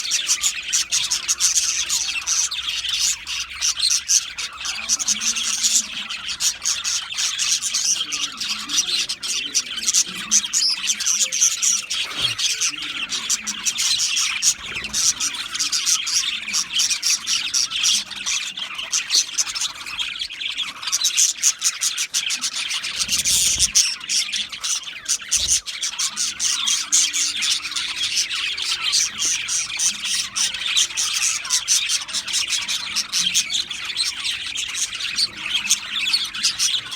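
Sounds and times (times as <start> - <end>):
budgerigar squawks: 0.0 - 36.9
budgerigars chirping and chattering: 0.0 - 36.9.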